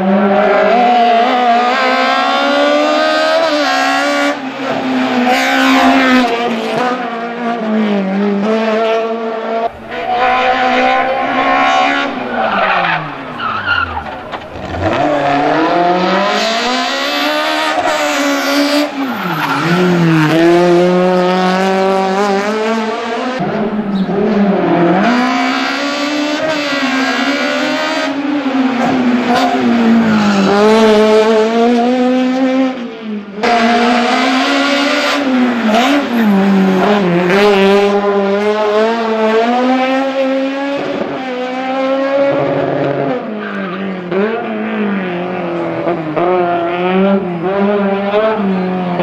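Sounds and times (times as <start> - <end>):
race car engine revving: 0.0 - 49.0.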